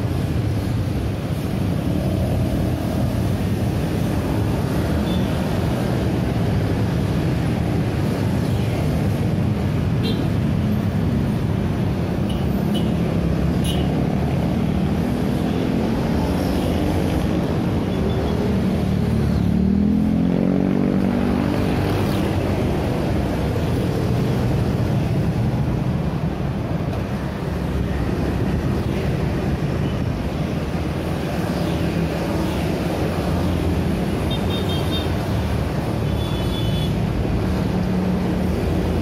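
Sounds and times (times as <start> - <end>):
dense road traffic passing: 0.0 - 39.0.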